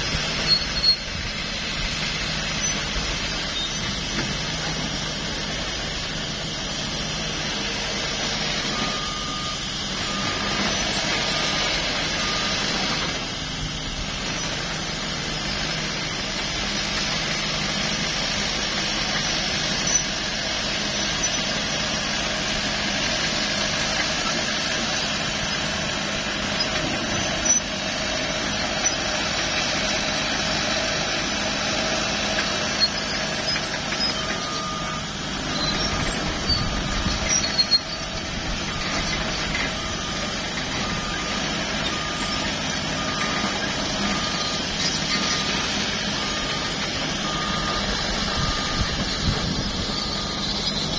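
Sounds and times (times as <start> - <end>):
diesel engines running: 0.0 - 50.9
reversing alarm beeping: 0.0 - 50.9.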